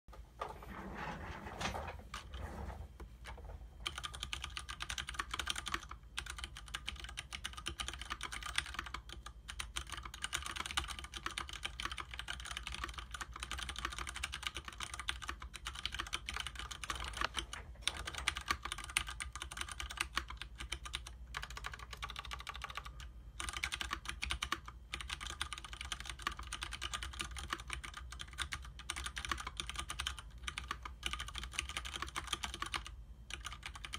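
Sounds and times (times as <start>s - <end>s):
mechanical keyboard typing: 3.2s - 33.9s.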